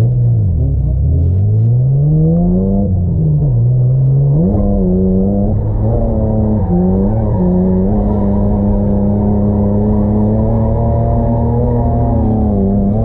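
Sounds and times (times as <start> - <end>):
car engine under throttle: 0.0 - 13.0.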